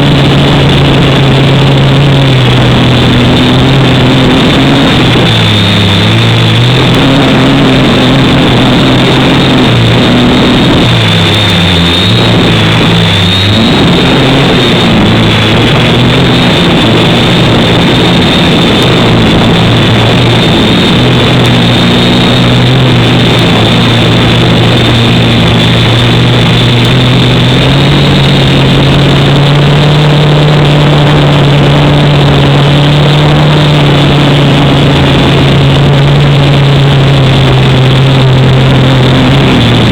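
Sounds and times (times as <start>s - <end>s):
drone propellers buzzing: 0.0s - 39.9s
thin high whine: 0.0s - 39.9s.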